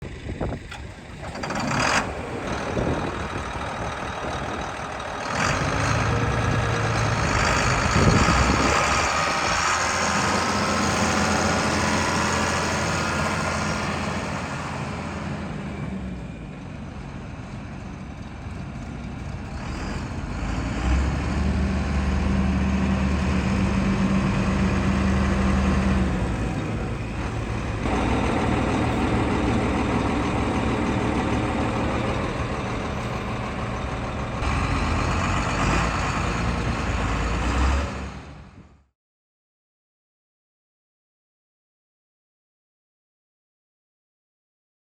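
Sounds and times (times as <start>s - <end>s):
tractor diesel engine running: 0.0s - 38.6s.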